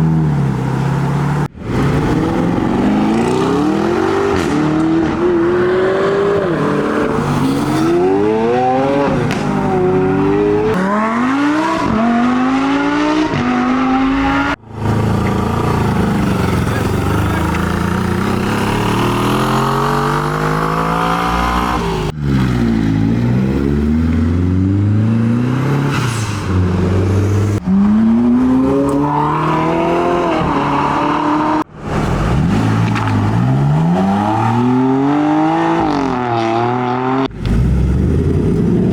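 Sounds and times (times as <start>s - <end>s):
car engines revving and accelerating: 0.0s - 38.9s.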